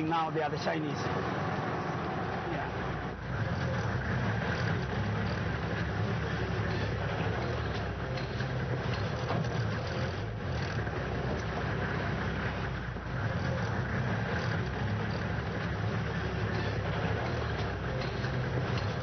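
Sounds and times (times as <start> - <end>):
low engine hum: 0.0 - 19.0
road noise: 0.0 - 19.0.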